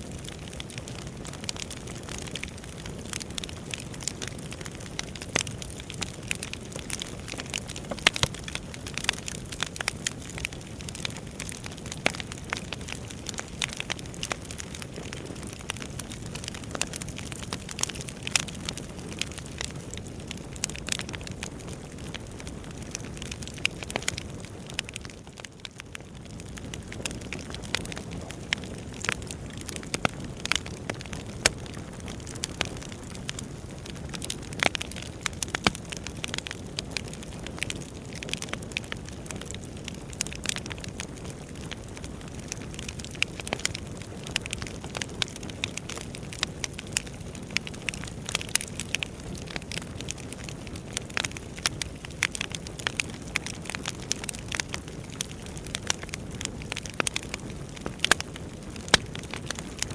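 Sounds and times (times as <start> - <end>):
firewood crackling and popping: 0.0 - 59.9.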